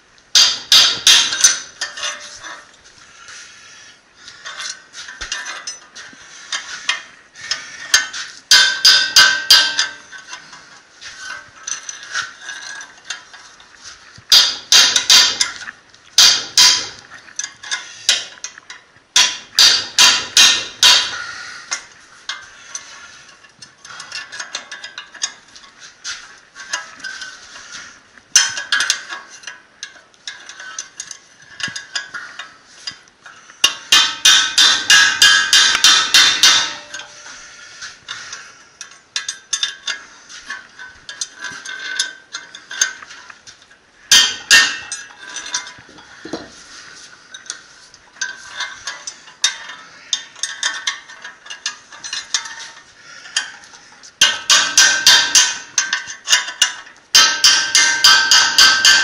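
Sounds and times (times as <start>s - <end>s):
light metal tapping and clinking: 0.3s - 2.8s, 4.3s - 46.6s, 47.3s - 59.0s.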